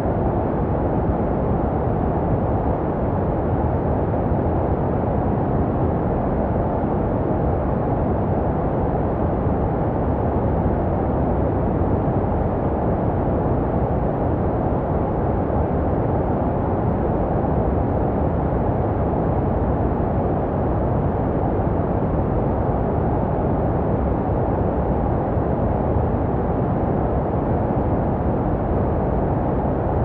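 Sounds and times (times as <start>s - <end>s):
low white noise: 0.0s - 30.0s.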